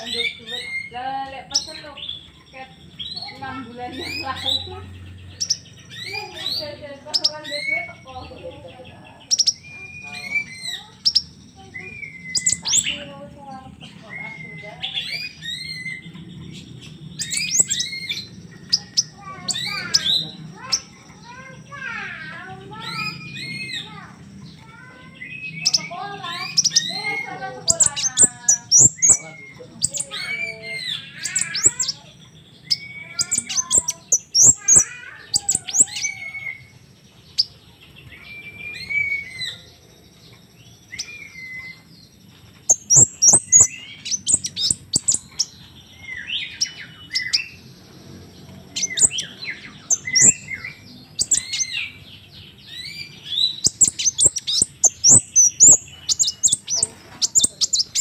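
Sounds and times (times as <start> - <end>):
high bird chirps and trills: 0.0 - 58.0
whistled bird notes: 9.2 - 13.1, 13.8 - 47.7, 48.7 - 58.0.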